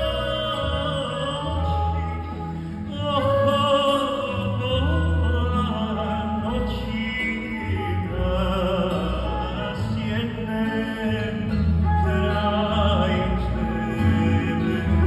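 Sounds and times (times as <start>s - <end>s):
double bass low notes: 0.0s - 15.0s
lute and fiddle melody: 0.0s - 15.0s.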